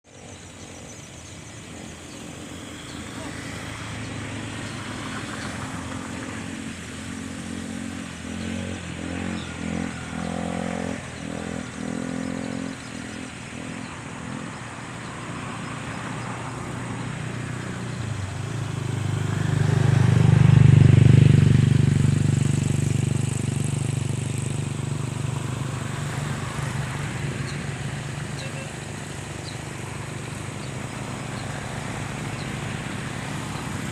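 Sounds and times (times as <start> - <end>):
vehicle engine passing by: 0.1 - 33.9.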